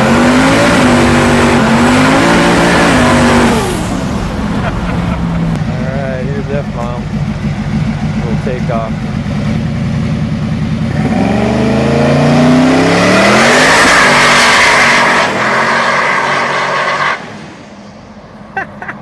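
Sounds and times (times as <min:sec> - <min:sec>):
car engine revving: 0:00.0 - 0:18.5.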